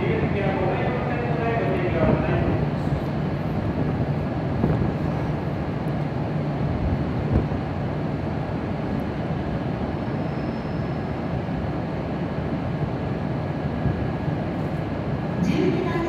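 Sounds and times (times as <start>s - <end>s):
station ambience: 0.0s - 16.0s
stationary train humming: 0.0s - 16.0s.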